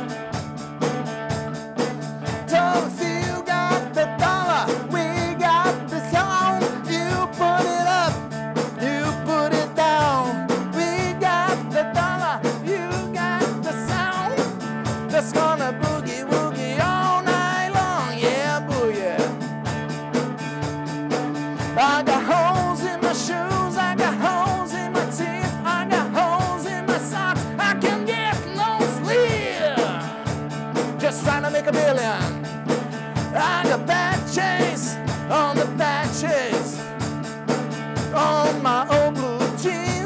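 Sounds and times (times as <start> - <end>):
bass and drums beat: 0.0 - 40.0
electric guitar: 0.0 - 40.0.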